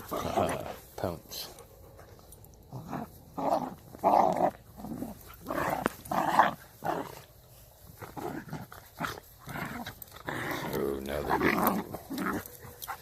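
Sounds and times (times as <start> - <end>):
puppies growling and yapping: 0.0 - 0.9, 1.6 - 13.0.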